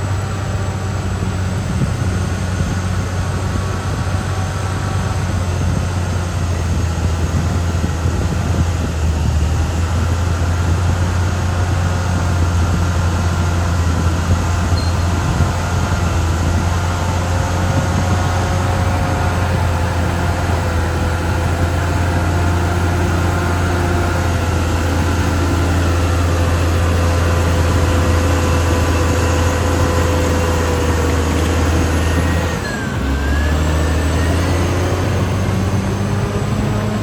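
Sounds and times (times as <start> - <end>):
bulldozer engine running: 0.0 - 37.0.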